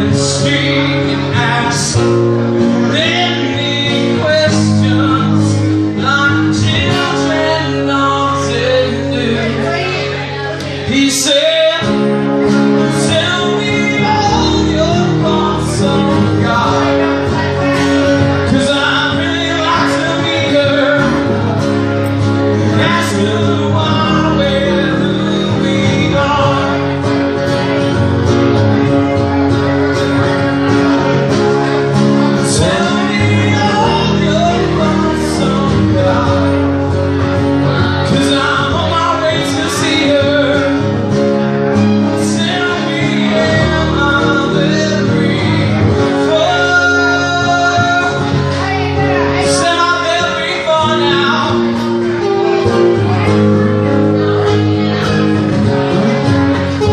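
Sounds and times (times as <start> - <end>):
acoustic guitars strummed: 0.0 - 56.9
man singing: 0.0 - 56.9.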